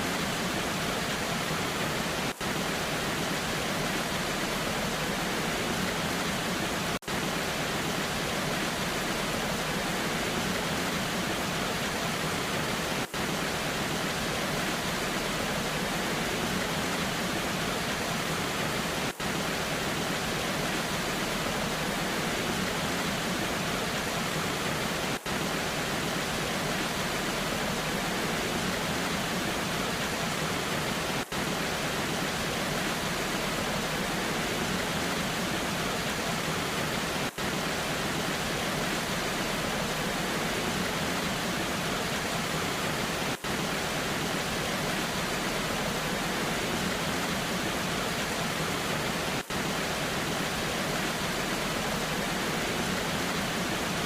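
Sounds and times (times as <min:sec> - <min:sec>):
rain falling: 0:00.0 - 0:54.0
waterfall rushing: 0:00.0 - 0:54.0.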